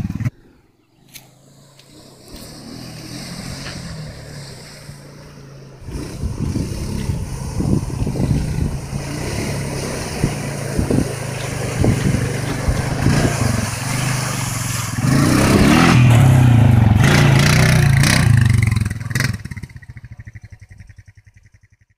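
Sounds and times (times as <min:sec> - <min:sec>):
quad bike engine revving: 0:00.0 - 0:00.3, 0:01.0 - 0:21.9
water splashing under wheels: 0:01.2 - 0:20.2.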